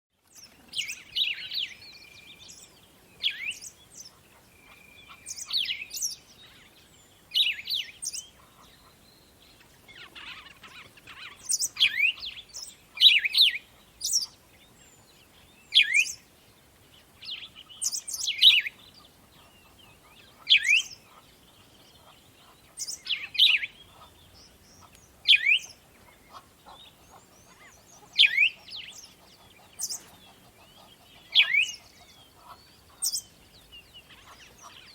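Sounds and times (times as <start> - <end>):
songbirds chirping: 0.1 - 34.9
faint background hiss: 0.2 - 34.9.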